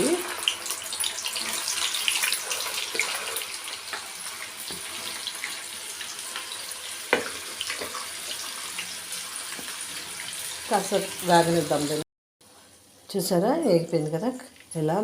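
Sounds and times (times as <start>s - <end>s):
beans frying in hot oil: 0.0s - 15.0s.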